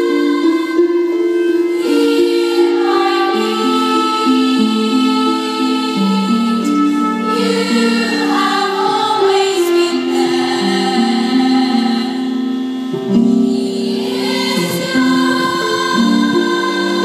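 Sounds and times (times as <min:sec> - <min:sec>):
girls' choir singing: 0:00.0 - 0:17.0.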